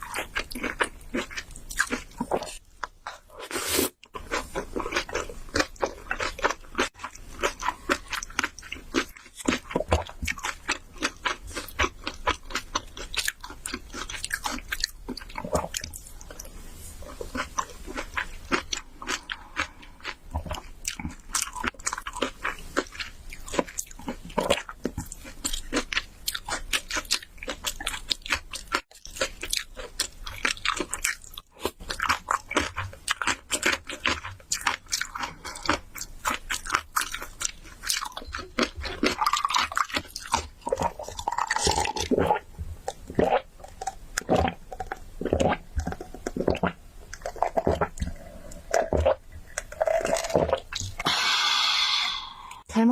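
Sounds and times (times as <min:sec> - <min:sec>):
person chewing and biting food: 0:00.0 - 0:52.5.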